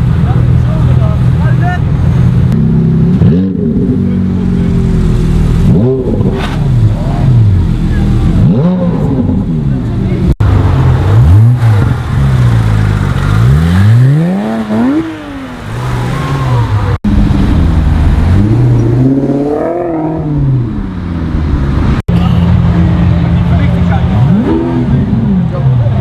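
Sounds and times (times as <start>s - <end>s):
sports car engine revving: 0.0s - 26.0s.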